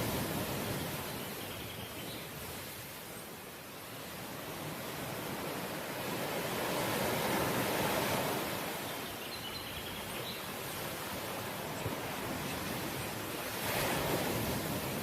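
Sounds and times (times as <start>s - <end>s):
sea waves washing ashore: 0.0s - 9.5s, 10.1s - 15.0s.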